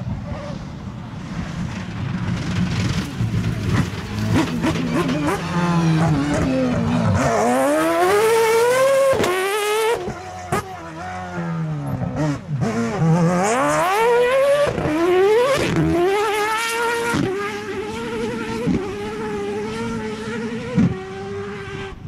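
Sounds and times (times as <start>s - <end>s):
rally car engine accelerating: 0.2s - 22.0s.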